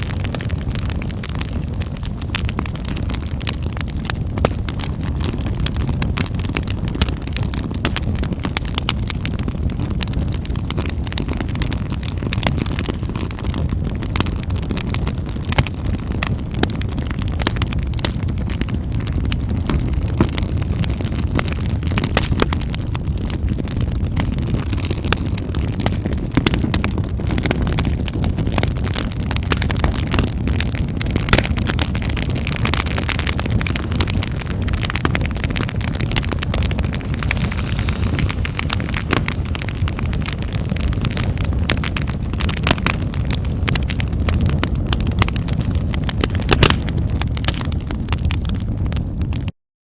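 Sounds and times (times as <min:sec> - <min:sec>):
low rumble of flames: 0:00.0 - 0:49.5
wood fire popping and snapping: 0:00.0 - 0:49.5.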